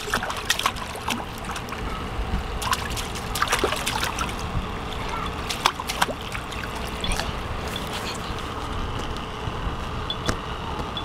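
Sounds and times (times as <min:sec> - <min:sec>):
wind rumble on microphone: 0:00.1 - 0:11.0.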